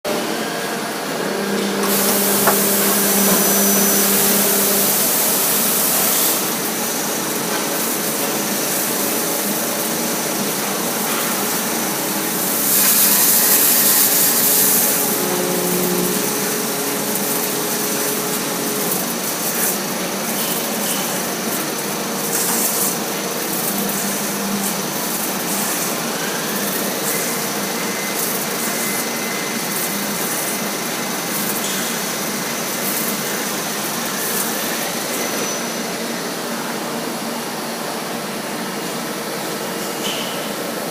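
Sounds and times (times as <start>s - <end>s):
machine tool humming: 0.1s - 36.4s
cutting oil hissing: 0.2s - 36.3s.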